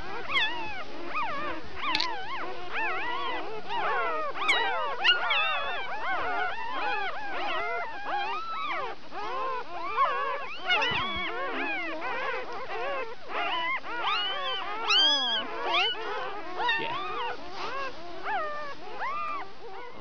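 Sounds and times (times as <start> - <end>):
puppies crying and squealing: 0.0 - 20.0.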